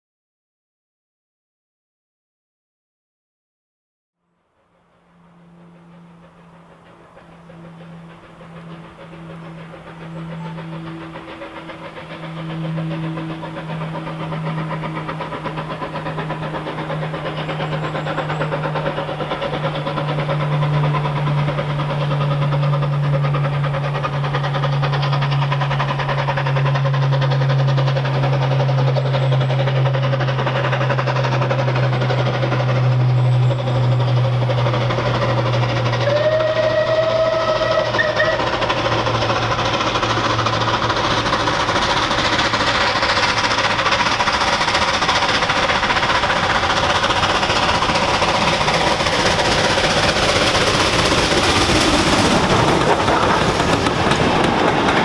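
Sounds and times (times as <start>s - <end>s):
steam locomotive working hard: 4.3s - 55.0s.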